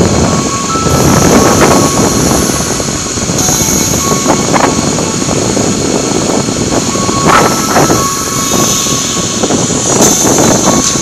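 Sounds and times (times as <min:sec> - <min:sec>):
motorcycle engine: 0:00.0 - 0:11.0
wind roar on microphone: 0:00.0 - 0:11.0.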